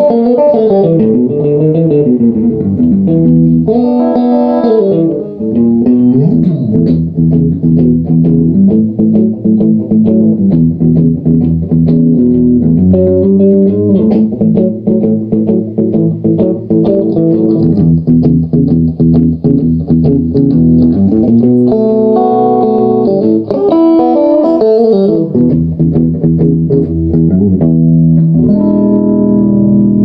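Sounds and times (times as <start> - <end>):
electric guitar riffs and chords: 0.0 - 30.0.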